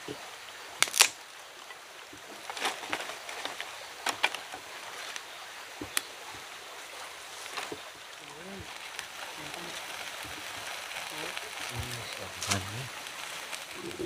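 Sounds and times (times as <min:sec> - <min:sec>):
dry leaves and sticks crackling: 0:00.8 - 0:14.0.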